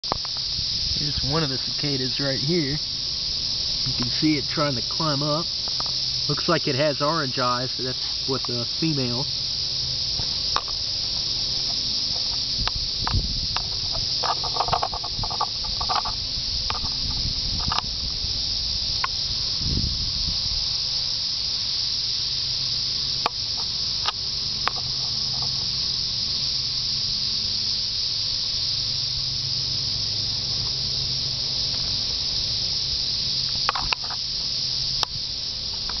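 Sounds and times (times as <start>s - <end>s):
cicadas droning: 0.0s - 36.0s.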